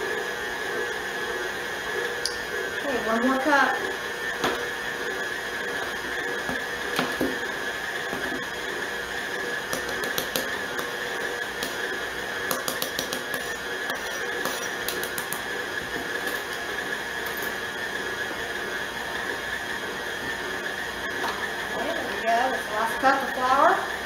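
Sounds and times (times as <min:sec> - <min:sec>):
stand mixer motor whine: 0:00.0 - 0:24.0.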